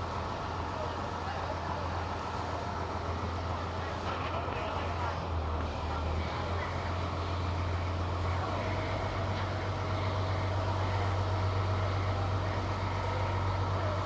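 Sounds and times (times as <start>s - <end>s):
boat engine droning: 0.0s - 14.0s
wind: 0.0s - 14.0s.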